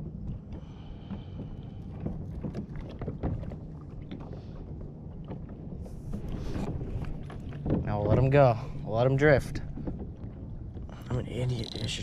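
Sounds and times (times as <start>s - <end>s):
water lapping against a kayak: 0.0s - 12.0s
wind rumbling on microphone: 0.0s - 12.0s.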